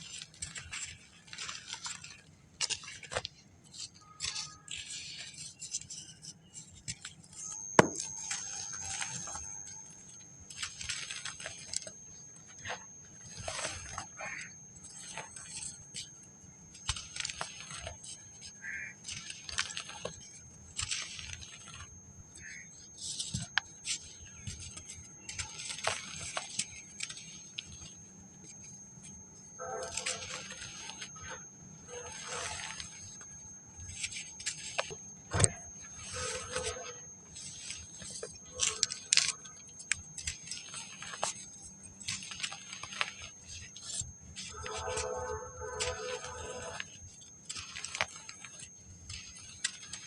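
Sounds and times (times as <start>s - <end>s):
sand crumbling and cracking: 0.0s - 50.0s.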